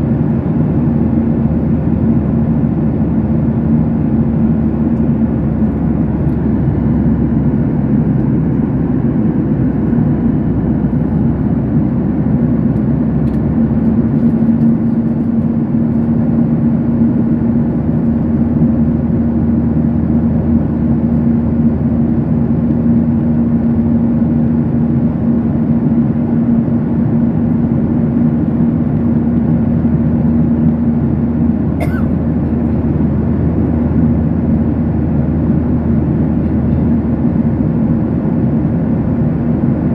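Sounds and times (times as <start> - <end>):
jet engine cabin rush: 0.0 - 39.9
low steady hum: 0.0 - 39.9.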